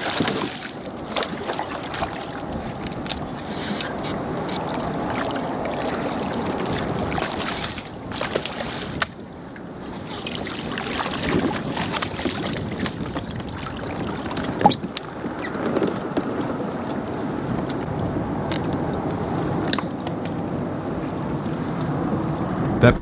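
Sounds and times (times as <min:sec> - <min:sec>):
water splashing and sloshing: 0:00.0 - 0:22.5.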